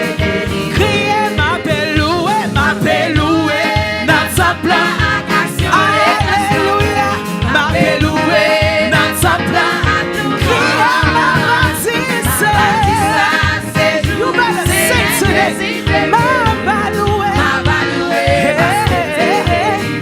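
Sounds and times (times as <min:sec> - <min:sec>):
backing band: 0:00.0 - 0:20.0
drums keeping steady beat: 0:00.0 - 0:20.0
woman singing gospel song: 0:00.0 - 0:20.0.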